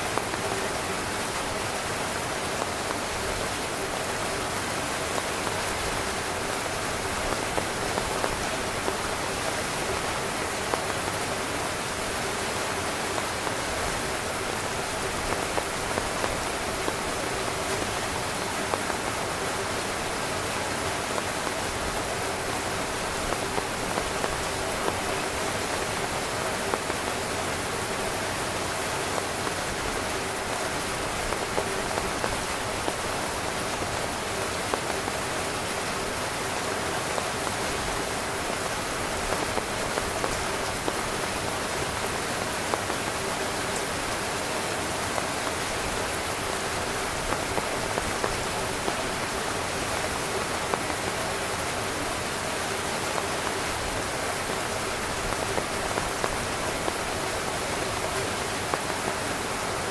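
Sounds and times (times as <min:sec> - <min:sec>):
heavy rain on tent fabric: 0:00.0 - 0:59.9.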